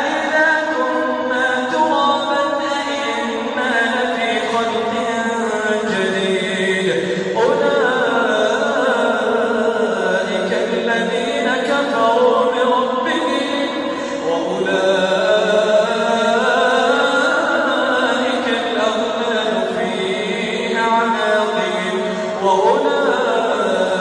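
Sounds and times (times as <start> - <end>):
person chanting melodically: 0.0 - 24.0.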